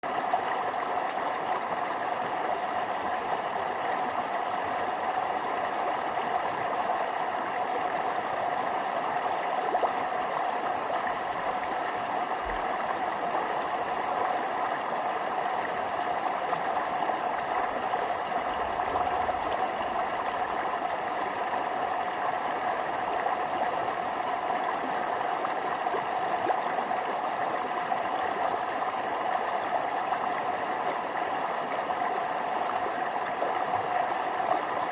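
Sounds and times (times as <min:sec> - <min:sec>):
stream flowing over small waterfalls: 0:00.0 - 0:34.9.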